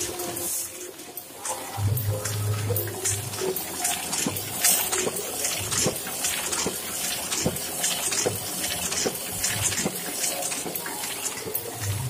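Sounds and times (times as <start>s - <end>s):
printing press clicks: 0.0s - 12.0s
printing press running: 0.0s - 12.0s.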